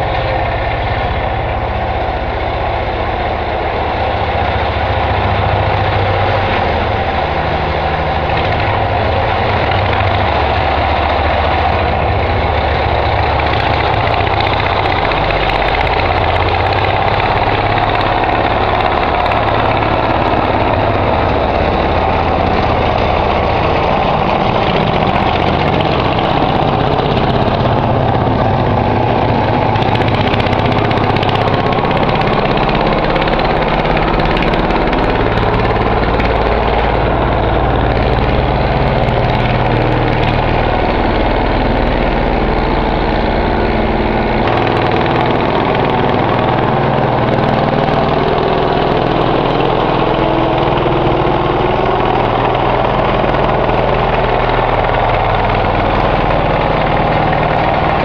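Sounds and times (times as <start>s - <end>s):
dumper engine running: 0.0s - 58.0s.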